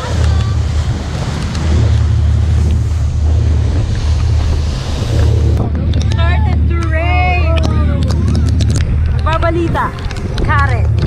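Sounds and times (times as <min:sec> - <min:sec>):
low rumble: 0:00.0 - 0:11.0
water rushing along boat hull: 0:00.0 - 0:11.0
wind buffeting microphone: 0:00.0 - 0:11.0.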